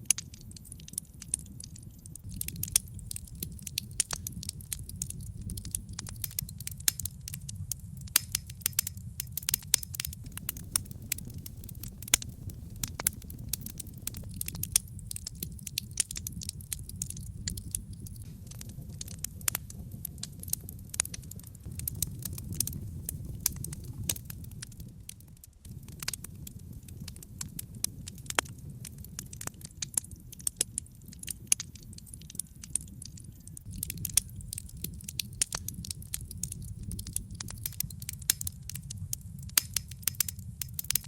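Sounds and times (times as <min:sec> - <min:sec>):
low rumble of flames: 0:00.0 - 0:41.0
wood logs crackling and popping: 0:00.0 - 0:41.0.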